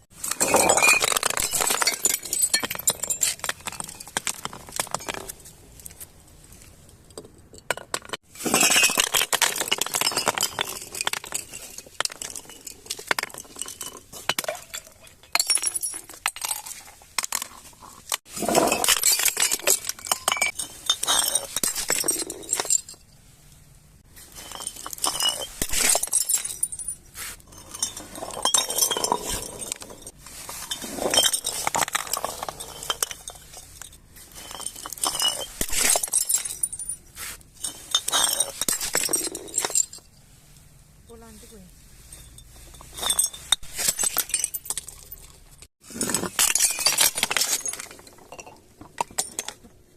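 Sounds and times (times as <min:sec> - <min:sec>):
glass clinking and crunching: 0:00.1 - 0:40.7, 0:41.9 - 0:49.9.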